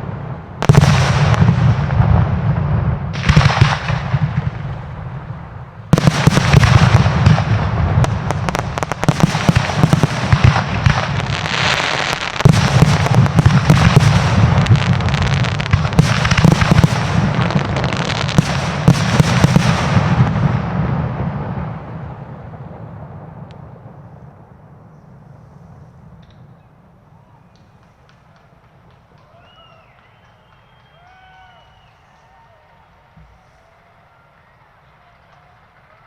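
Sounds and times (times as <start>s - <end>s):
fireworks bangs and crackling: 0.0s - 36.0s.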